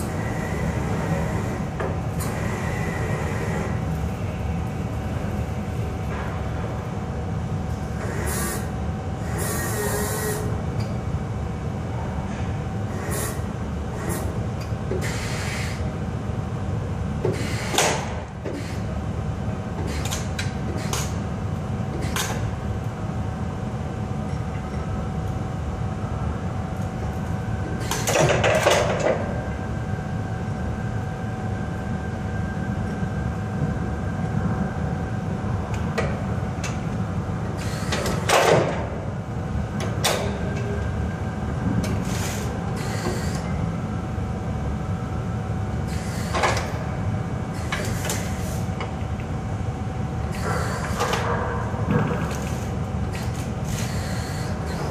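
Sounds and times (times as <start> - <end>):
low mechanical hum: 0.0 - 54.9.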